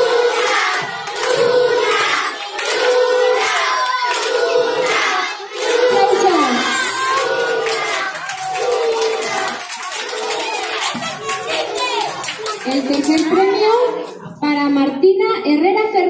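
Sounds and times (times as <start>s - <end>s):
children chanting and cheering: 0.0s - 14.2s
people clapping: 0.0s - 14.3s.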